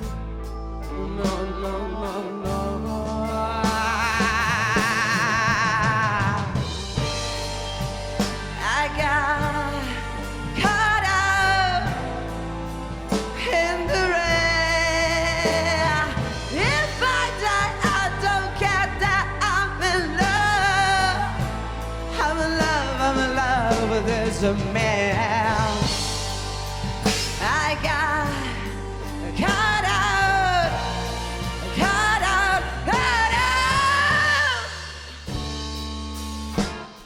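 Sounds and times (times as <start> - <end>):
slow blues band: 0.0 - 37.0
wordless vocal with vibrato: 0.8 - 7.3, 8.4 - 35.8.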